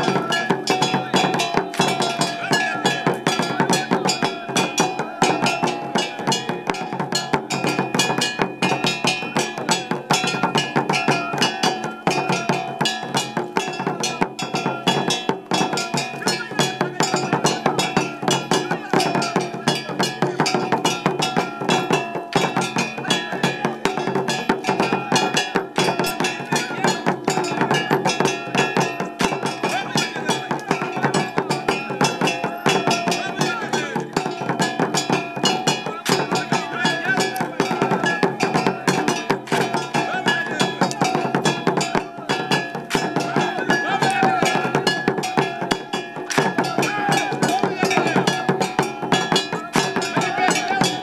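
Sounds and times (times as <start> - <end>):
fast dense drumming: 0.0 - 51.0
voices chanting: 0.0 - 51.0.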